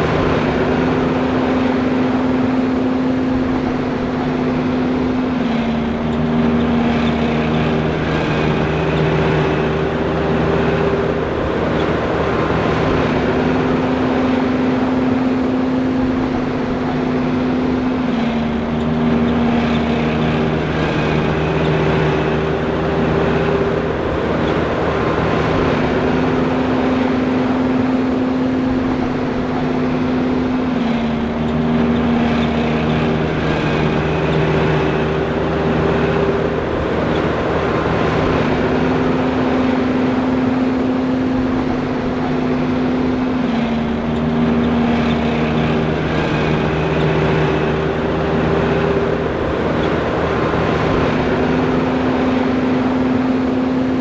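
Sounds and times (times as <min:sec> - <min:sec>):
forage harvester humming: 0:00.0 - 0:54.0.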